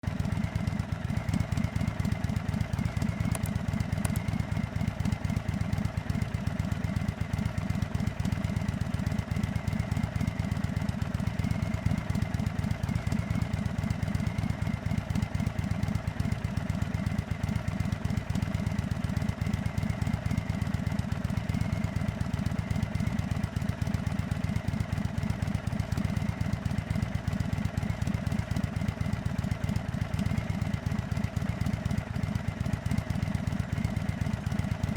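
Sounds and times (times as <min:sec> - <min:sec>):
v-twin motorcycle engine idling: 0:00.0 - 0:34.9.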